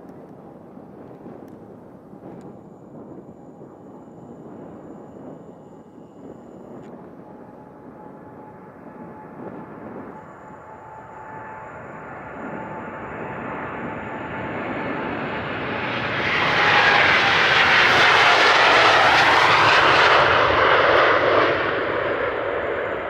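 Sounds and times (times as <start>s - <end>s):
jet airliner passing at takeoff: 0.1s - 23.0s.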